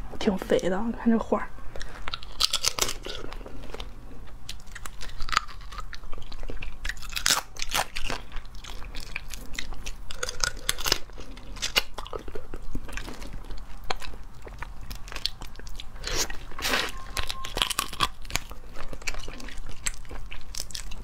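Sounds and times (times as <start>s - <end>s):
chewing: 1.7s - 21.0s
shells crunching while eating: 1.7s - 21.0s.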